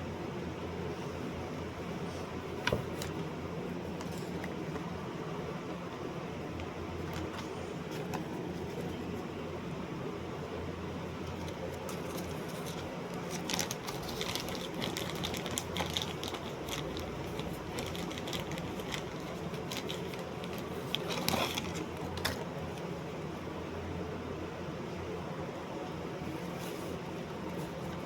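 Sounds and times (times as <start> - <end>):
low hum and hiss: 0.0 - 28.0.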